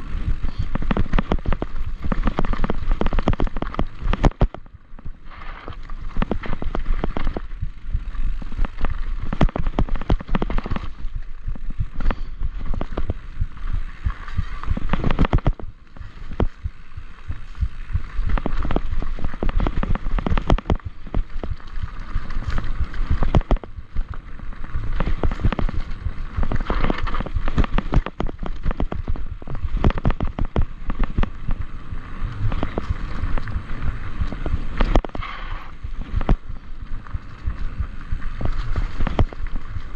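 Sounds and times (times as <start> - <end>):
bike rattling and knocking: 0.0 - 35.2, 35.8 - 39.9
low rumble: 0.0 - 39.9
tyres crunching over stones: 0.3 - 35.2.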